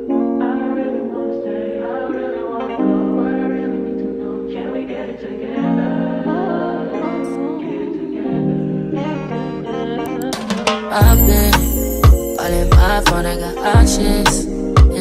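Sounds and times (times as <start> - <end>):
song with layered vocals: 0.0 - 15.0.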